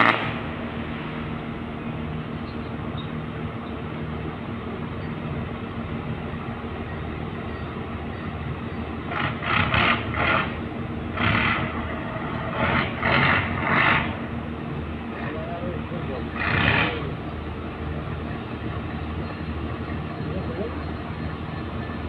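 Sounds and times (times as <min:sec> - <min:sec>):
diesel engines humming: 0:00.0 - 0:22.0.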